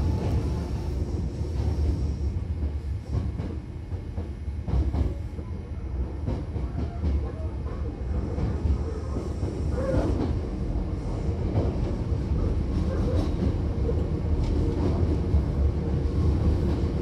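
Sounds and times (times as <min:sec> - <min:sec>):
train interior low rumble: 0:00.0 - 0:17.0.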